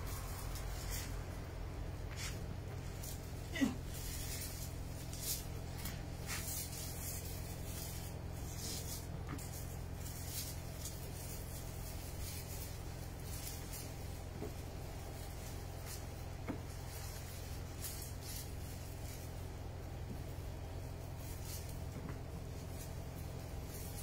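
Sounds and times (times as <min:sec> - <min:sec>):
low steady hum: 0:00.0 - 0:24.0
plants rustling: 0:00.0 - 0:24.0.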